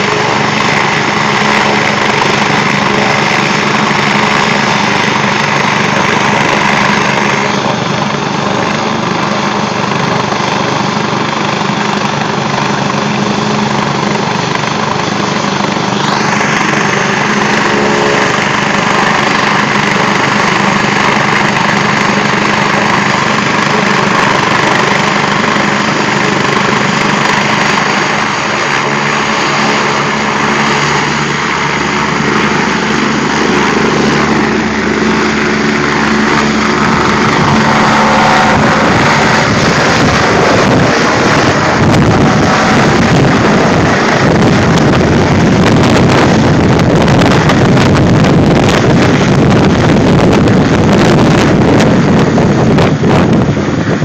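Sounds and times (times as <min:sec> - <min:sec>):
helicopter engines and rotor running: 0:00.0 - 0:54.0.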